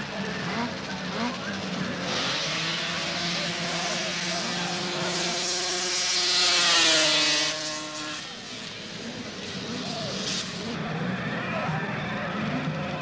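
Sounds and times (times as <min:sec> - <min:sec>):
snowmobile engine passing at full throttle: 0:00.0 - 0:13.0.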